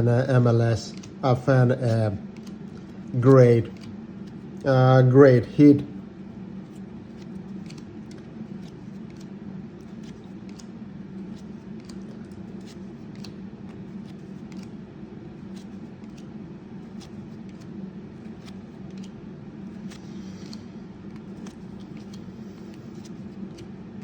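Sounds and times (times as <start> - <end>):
steady low hum: 0.0 - 24.0
trading cards flicked by hand: 0.9 - 1.2, 1.8 - 4.6, 6.6 - 24.0.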